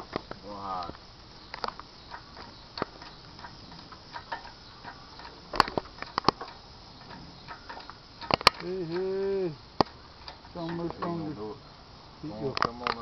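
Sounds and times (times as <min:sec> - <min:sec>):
metallic clicks of jack pumping: 0:00.1 - 0:11.3.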